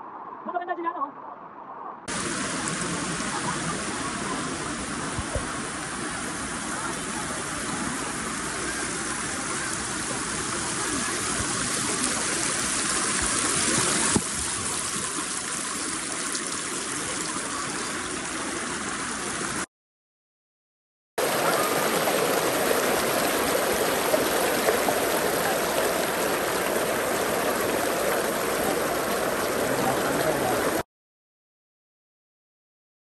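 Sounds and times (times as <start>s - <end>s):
river water rushing over rocks: 2.1s - 19.6s, 21.2s - 30.8s.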